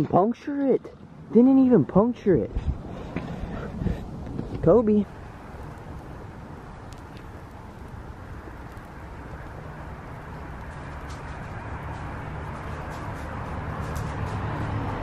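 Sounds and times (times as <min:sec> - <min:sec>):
faint fire crackles: 0:00.0 - 0:15.0
flames rushing: 0:02.6 - 0:15.0.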